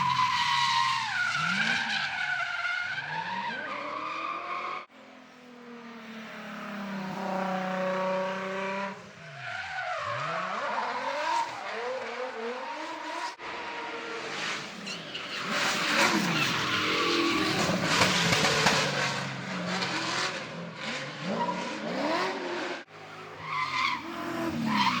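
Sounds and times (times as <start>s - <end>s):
tyres squealing and skidding: 0.0s - 4.9s, 6.0s - 25.0s
car engines revving: 0.0s - 25.0s.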